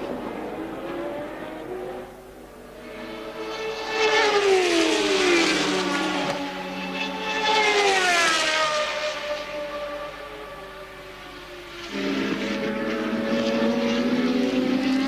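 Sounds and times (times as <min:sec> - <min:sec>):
race cars passing by: 0:00.0 - 0:15.0.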